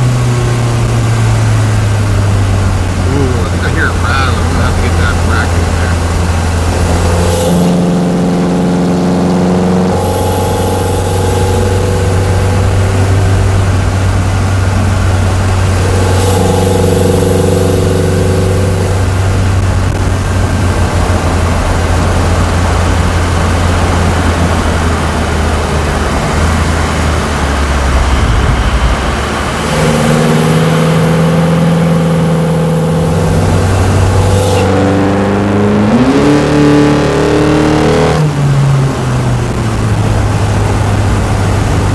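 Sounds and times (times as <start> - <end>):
car engine accelerating: 0.0 - 41.9
low road drone: 0.0 - 41.9.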